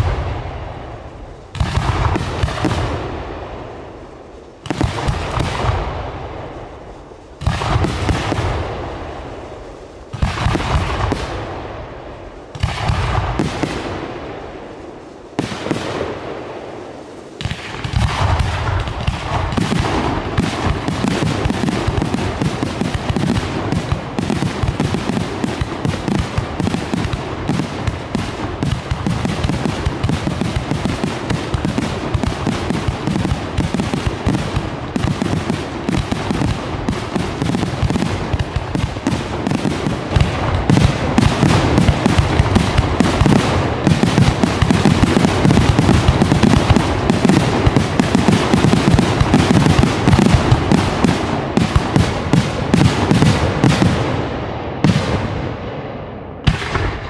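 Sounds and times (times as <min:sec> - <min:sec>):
fireworks barrage bangs and crackling: 0:00.0 - 0:57.0.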